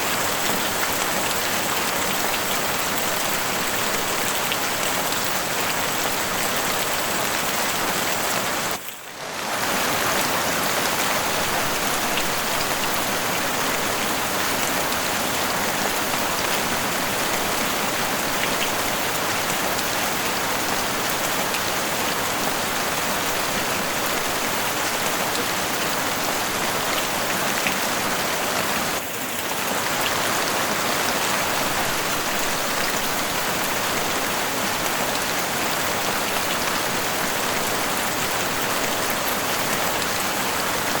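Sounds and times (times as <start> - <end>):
heavy rain on a roof: 0.0 - 41.0.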